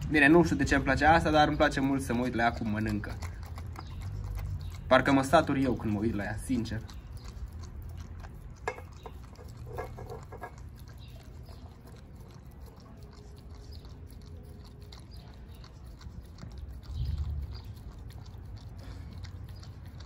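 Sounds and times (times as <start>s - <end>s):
dog chewing bones: 0.0s - 20.0s.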